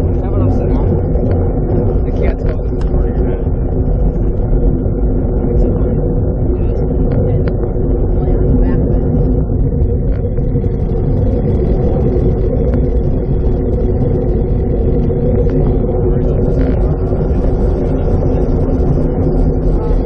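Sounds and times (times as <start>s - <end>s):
bike tyres rolling on asphalt: 0.0s - 20.0s
faint hum: 0.0s - 20.0s
wind rushing over microphone: 0.0s - 20.0s.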